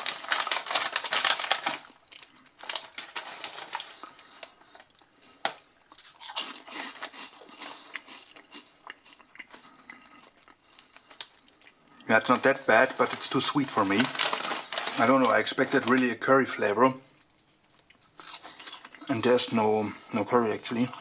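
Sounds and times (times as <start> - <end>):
crunching and chewing snacks: 0.0 - 16.2, 17.5 - 21.0
snack bag crinkling: 0.0 - 16.5, 17.3 - 21.0.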